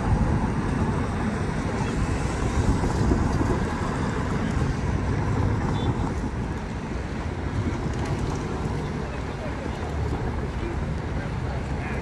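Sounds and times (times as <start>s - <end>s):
wind on microphone: 0.0s - 10.8s
bus and cars passing: 0.0s - 12.0s.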